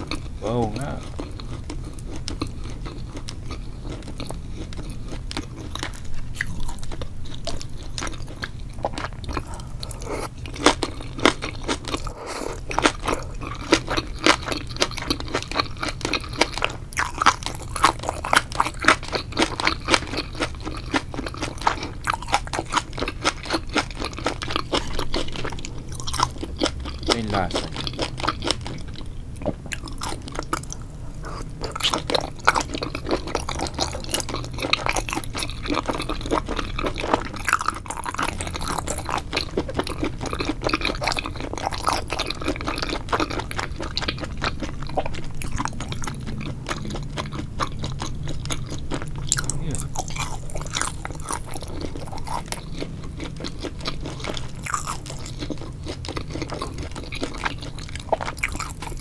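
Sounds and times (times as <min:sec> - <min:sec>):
wet chewing and crunching: 0:00.0 - 0:59.0.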